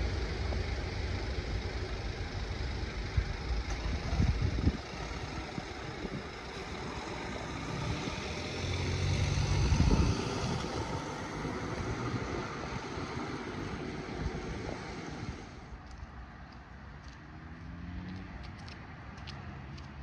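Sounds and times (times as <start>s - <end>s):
vehicle passing: 3.1s - 20.0s.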